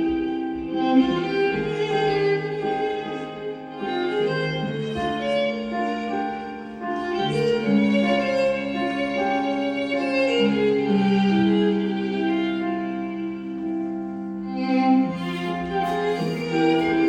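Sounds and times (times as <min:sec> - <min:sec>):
cello: 0:00.0 - 0:17.0
violin: 0:00.0 - 0:17.0.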